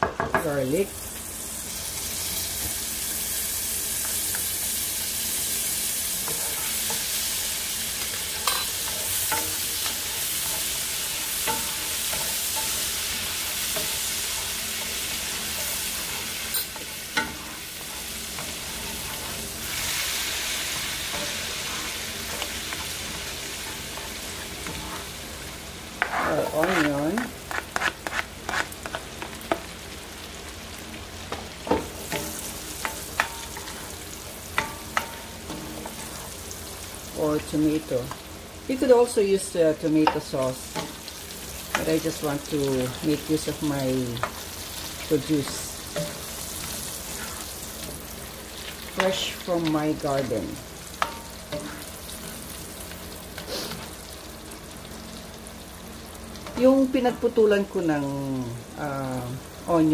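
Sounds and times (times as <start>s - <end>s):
garlic and butter sizzling: 0.0s - 59.9s.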